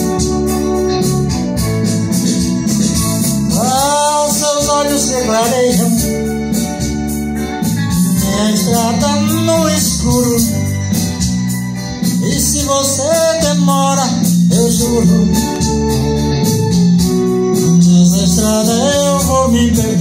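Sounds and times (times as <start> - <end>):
electronic keyboard organ sound: 0.0 - 20.0
steady drum beat: 0.0 - 20.0.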